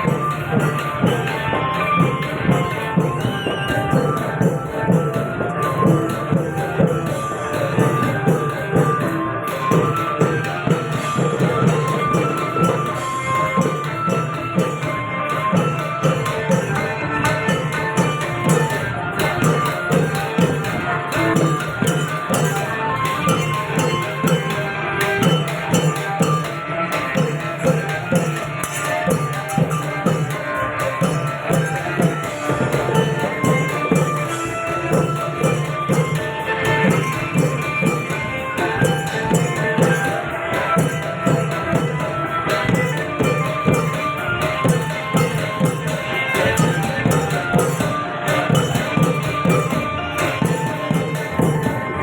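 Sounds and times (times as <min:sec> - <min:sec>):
hand cymbals jangling: 0:00.0 - 0:51.9
held melodic tones: 0:00.0 - 0:52.0
long drum ensemble playing: 0:00.0 - 0:52.0.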